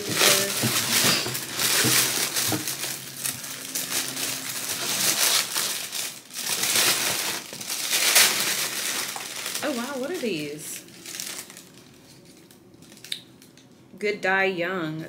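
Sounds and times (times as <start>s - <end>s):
packaging crinkling and rustling: 0.0s - 13.7s.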